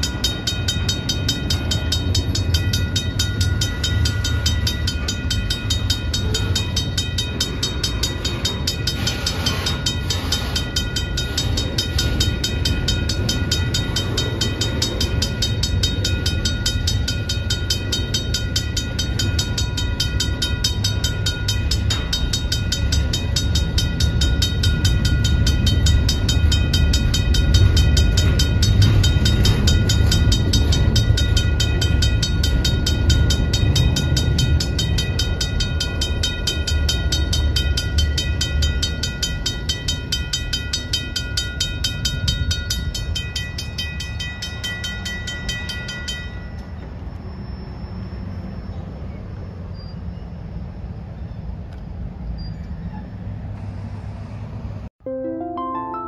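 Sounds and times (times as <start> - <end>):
mechanical crossing bell ringing: 0.0 - 46.9
freight train rumbling over crossing: 0.0 - 54.9.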